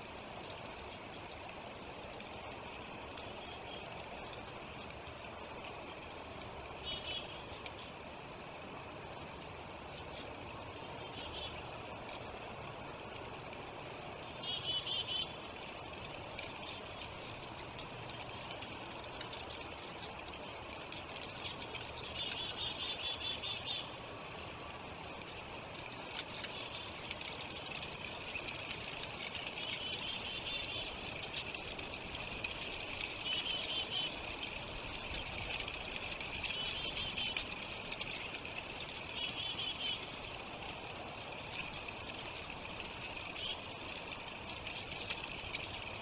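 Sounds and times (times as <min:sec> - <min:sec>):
flowing river water: 0:00.0 - 0:46.0.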